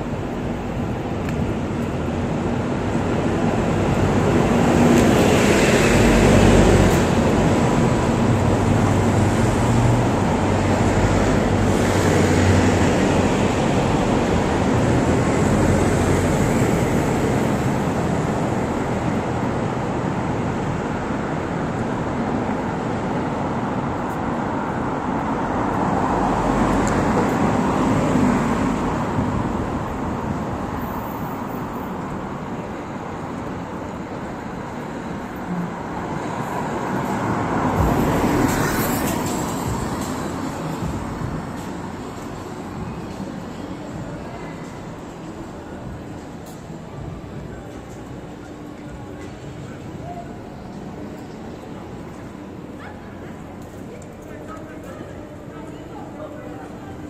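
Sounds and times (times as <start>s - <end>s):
bus driving past: 0.0s - 55.6s
traffic noise: 0.0s - 57.0s.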